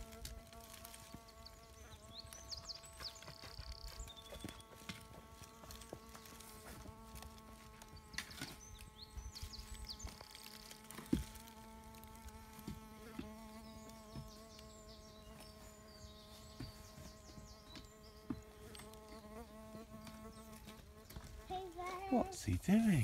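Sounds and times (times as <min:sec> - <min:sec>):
faint buzz of hovering fly: 0:00.0 - 0:23.0.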